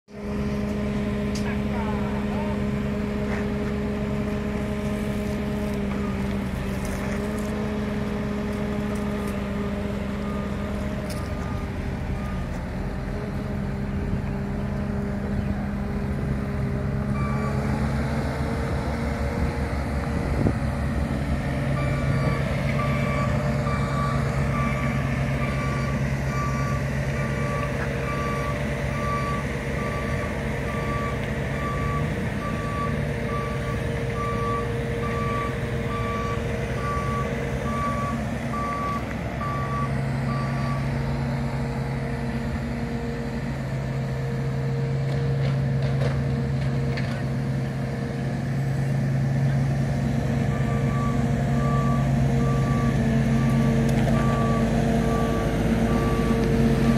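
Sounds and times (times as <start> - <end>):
diesel construction machines running: 0.0 - 56.9.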